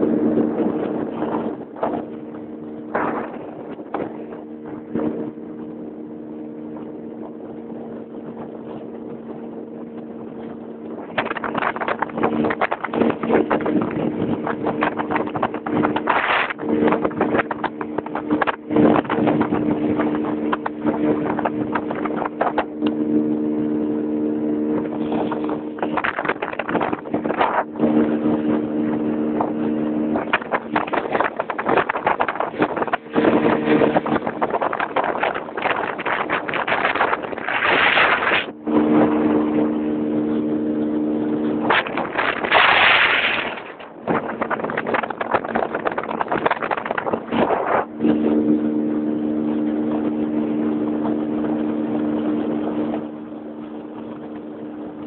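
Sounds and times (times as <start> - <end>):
motorboat engine running: 0.0 - 55.0
wind gusts buffeting microphone: 0.0 - 55.0.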